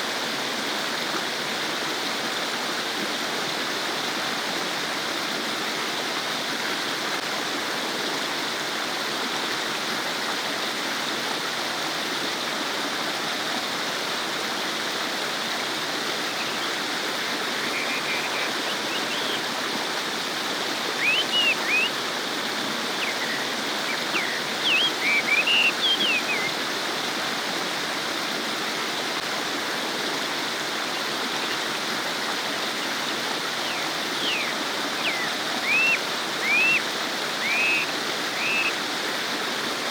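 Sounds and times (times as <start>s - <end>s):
stream babbling over rocks: 0.1s - 39.9s.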